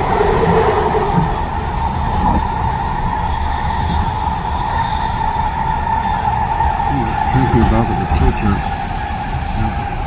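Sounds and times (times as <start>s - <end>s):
steady whine: 0.0s - 10.0s
wheels rumbling on track: 0.0s - 10.0s.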